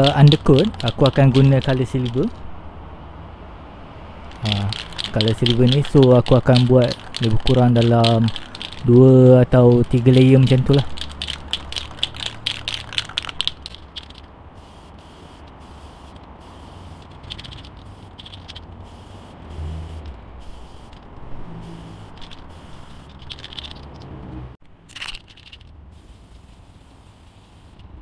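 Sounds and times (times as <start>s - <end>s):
spray can rattling when shaken: 0.0s - 2.4s, 4.3s - 24.1s, 24.9s - 27.9s
spray paint hissing: 0.0s - 2.4s, 4.3s - 24.0s, 24.9s - 28.0s.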